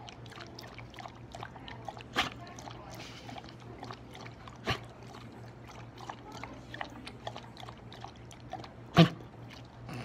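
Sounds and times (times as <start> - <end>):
dog lapping water: 0.0 - 10.0.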